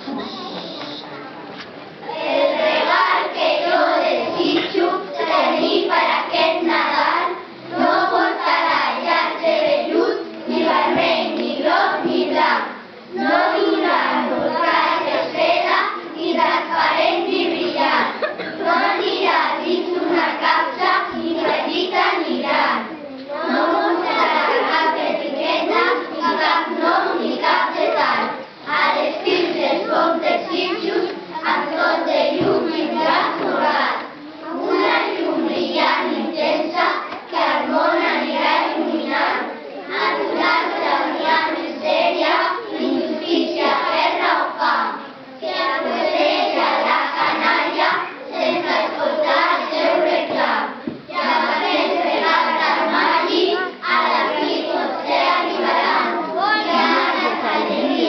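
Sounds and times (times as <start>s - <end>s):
children reciting in chorus: 0.0s - 58.0s.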